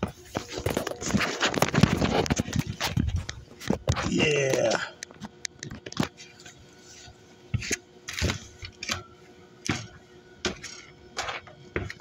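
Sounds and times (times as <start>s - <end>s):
heat pump units humming: 0.0s - 12.0s.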